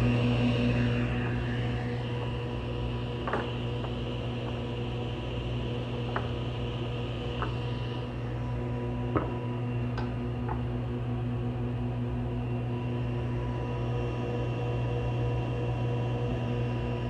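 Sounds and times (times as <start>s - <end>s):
table saw motor hum and whine: 0.0s - 17.0s.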